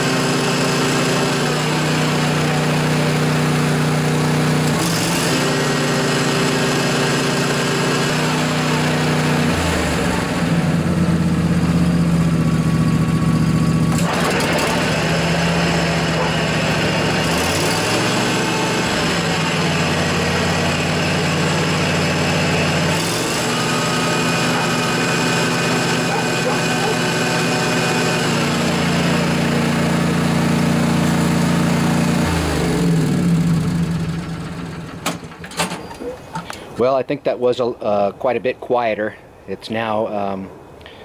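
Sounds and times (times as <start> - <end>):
riding mower engine running: 0.0 - 37.2.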